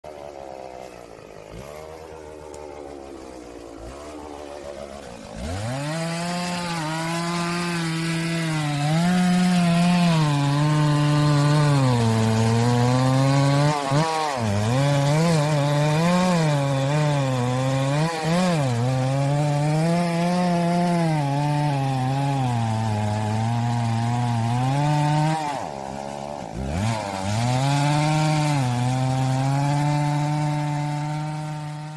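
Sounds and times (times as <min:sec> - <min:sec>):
chainsaw revving: 0:00.0 - 0:31.9.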